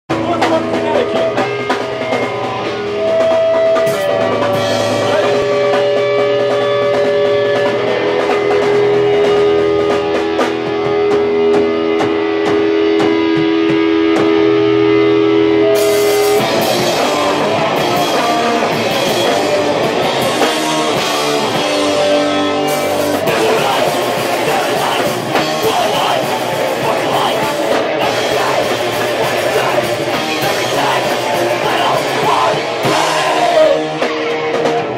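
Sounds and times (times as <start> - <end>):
live rock band playing: 0.1 - 34.9.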